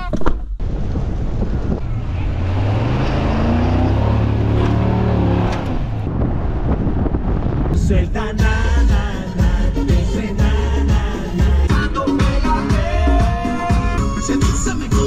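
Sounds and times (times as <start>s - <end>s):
truck engine running: 0.6s - 15.0s.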